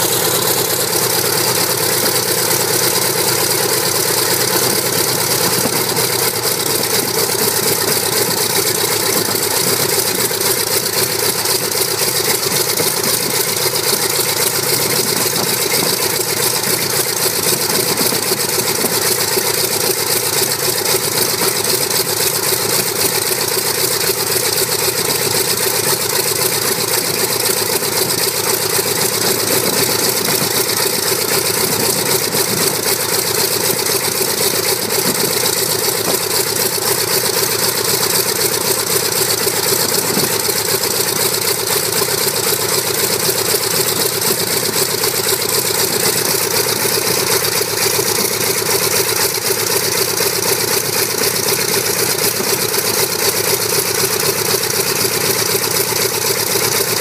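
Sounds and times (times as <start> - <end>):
radial aircraft engine idling: 0.0 - 57.0.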